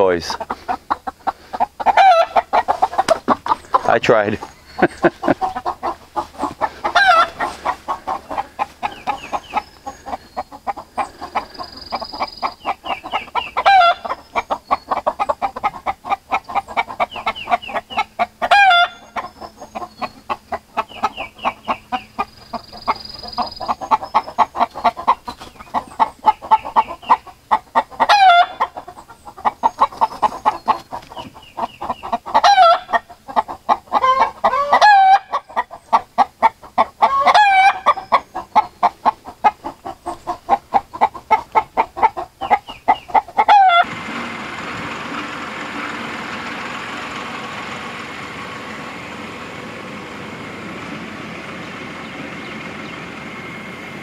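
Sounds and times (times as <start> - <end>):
chickens clucking: 0.0 - 54.0
loud chicken call: 0.2 - 30.9, 31.5 - 53.8.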